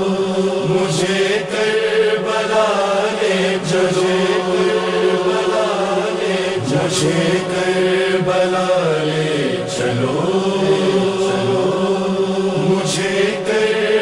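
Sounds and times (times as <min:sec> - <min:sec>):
voices humming a drone: 0:00.0 - 0:14.0.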